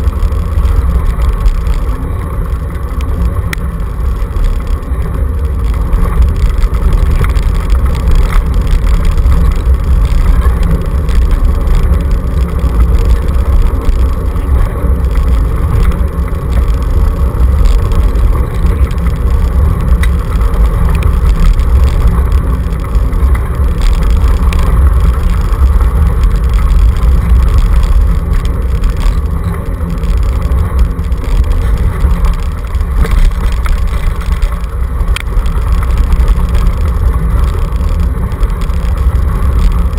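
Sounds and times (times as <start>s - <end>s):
scooter tyres rumbling on gravel: 0.0s - 39.9s.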